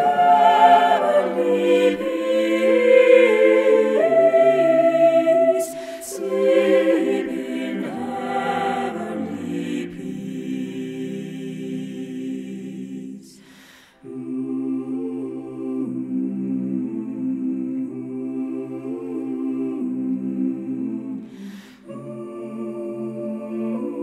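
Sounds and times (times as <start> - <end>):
choir singing slow chords: 0.0 - 24.0.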